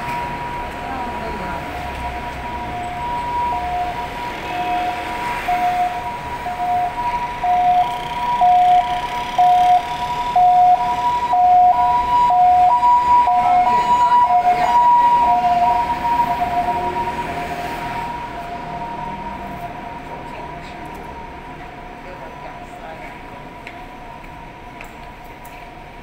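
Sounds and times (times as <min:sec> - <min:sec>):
street traffic: 0:00.0 - 0:26.0
two-tone emergency siren: 0:00.0 - 0:26.0.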